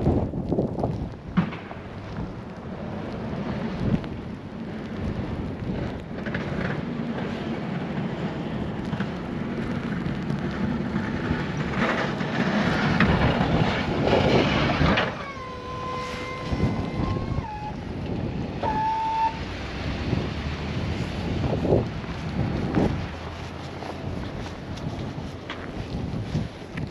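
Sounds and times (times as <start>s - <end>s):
wind rushing over microphone: 0.0s - 26.9s
vehicle running: 1.4s - 26.9s.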